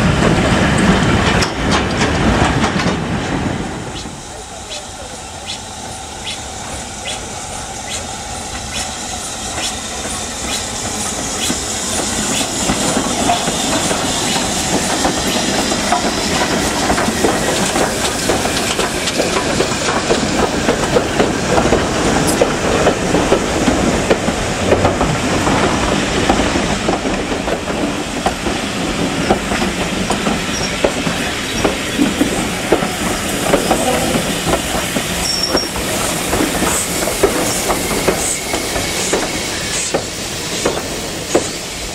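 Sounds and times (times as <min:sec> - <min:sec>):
train wheels clattering on rail joints: 0:00.0 - 0:04.8, 0:07.9 - 0:41.9.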